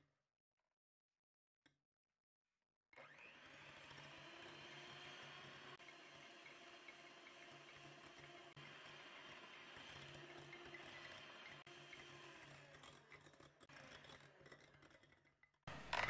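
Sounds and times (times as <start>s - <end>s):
electric hand mixer whipping: 3.0s - 16.0s.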